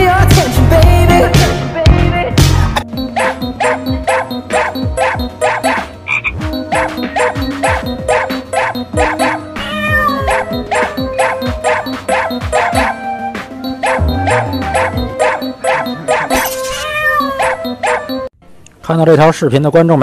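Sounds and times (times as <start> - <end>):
electronic music with fast beat: 0.0 - 16.5.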